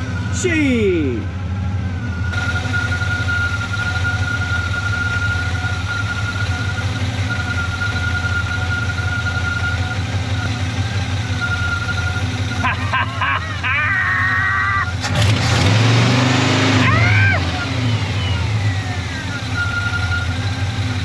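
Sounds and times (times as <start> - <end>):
pickup engine idling: 0.0 - 21.0.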